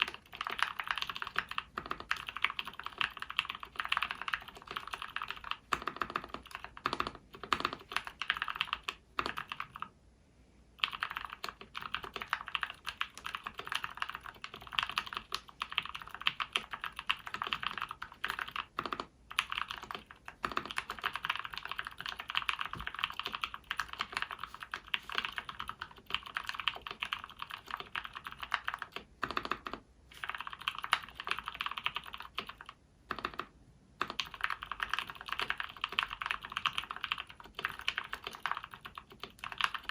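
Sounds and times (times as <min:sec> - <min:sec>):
mechanical keyboard typing: 0:00.0 - 0:09.9, 0:10.8 - 0:39.9.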